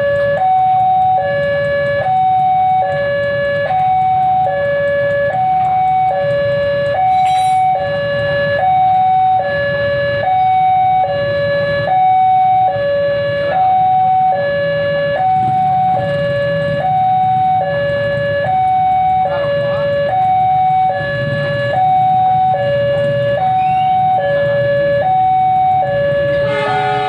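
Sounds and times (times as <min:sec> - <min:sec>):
level crossing two-tone alarm: 0:00.0 - 0:27.0.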